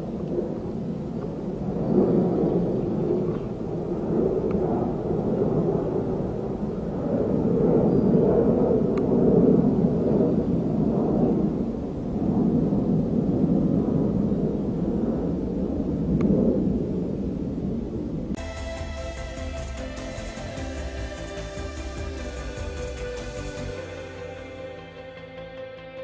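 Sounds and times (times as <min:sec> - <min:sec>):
rumbling microphone noise: 0:00.0 - 0:24.4.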